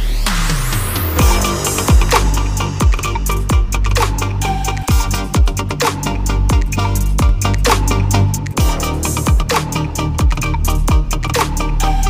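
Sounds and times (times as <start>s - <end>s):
electronic dance music: 0.0s - 12.0s
busy hi-hats: 0.3s - 12.0s
deep bass hits: 0.5s - 12.0s.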